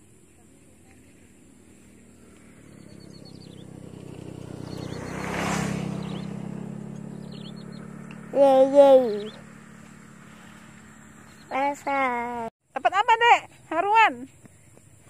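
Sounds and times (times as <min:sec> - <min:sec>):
birds chirping: 0:00.0 - 0:12.5
motorcycle engine: 0:00.0 - 0:12.5.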